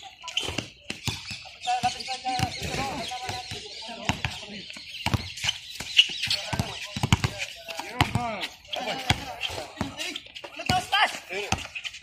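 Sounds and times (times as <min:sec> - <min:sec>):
players calling out: 0:00.0 - 0:12.0
basketball bouncing: 0:00.4 - 0:10.0.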